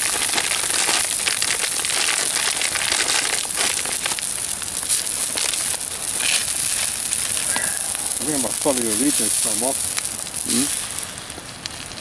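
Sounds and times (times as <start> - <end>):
campfire crackling and hissing: 0.0 - 12.0.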